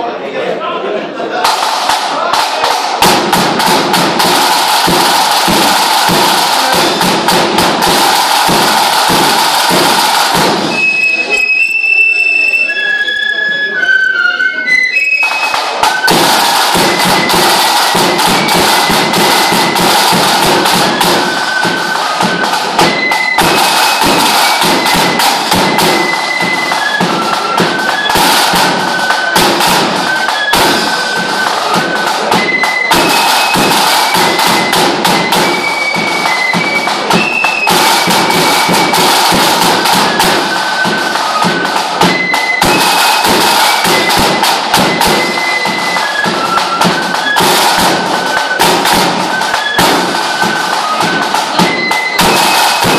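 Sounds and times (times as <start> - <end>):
drums beaten in rapid rattle: 1.4 - 11.3, 15.2 - 52.9
shrill fife playing a tune: 1.4 - 52.9.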